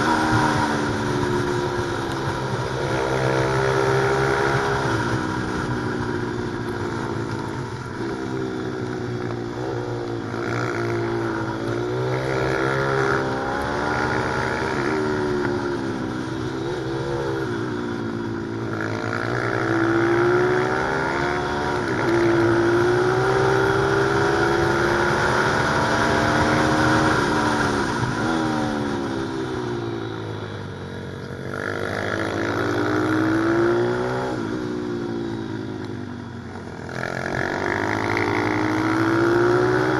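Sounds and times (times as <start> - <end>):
motorbike engine revving: 0.0 - 30.3, 31.3 - 35.7, 36.3 - 39.9.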